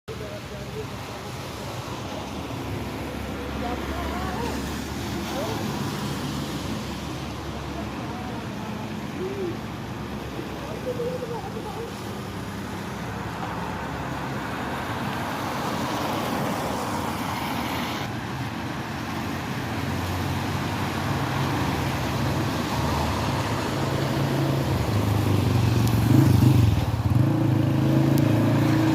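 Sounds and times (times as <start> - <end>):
traffic hiss on wet road: 0.2 - 28.9.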